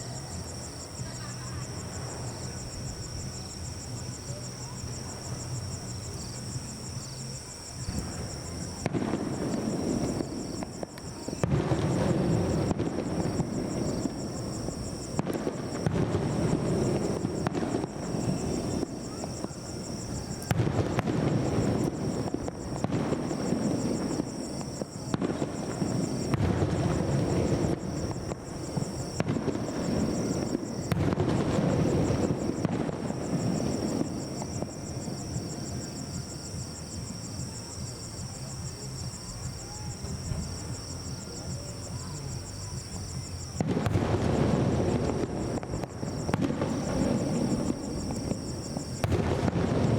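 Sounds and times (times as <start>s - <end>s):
fireworks bursting with crackle: 0.0s - 49.9s.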